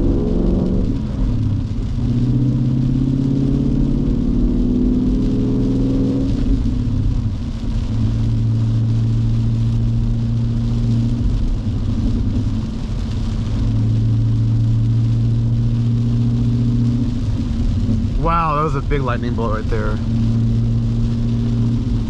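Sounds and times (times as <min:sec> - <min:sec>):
rain hissing on car: 0:00.0 - 0:22.0.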